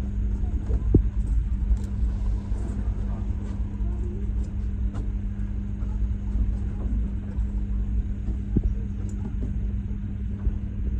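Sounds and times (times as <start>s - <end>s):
boat engine rumbling: 0.0s - 10.9s.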